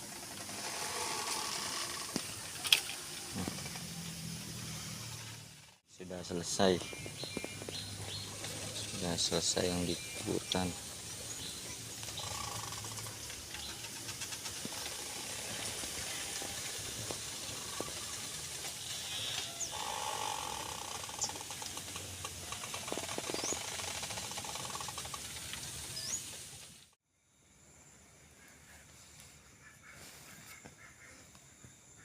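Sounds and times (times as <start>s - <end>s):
steady outdoor hiss: 0.0s - 32.0s
birds chirping: 0.2s - 26.5s.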